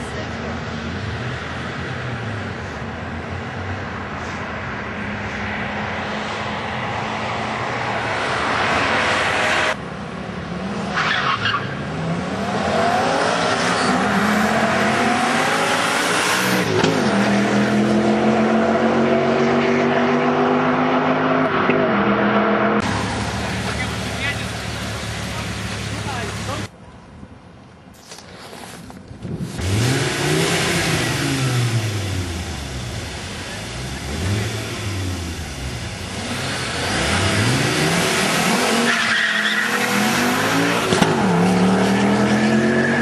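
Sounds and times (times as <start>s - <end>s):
cars accelerating past: 0.6s - 26.6s, 29.5s - 43.0s.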